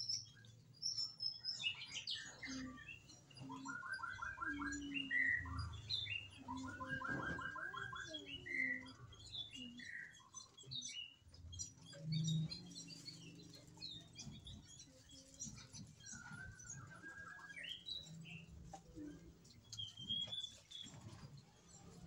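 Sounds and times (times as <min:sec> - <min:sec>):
birds chirping and whistling: 0:00.0 - 0:22.0.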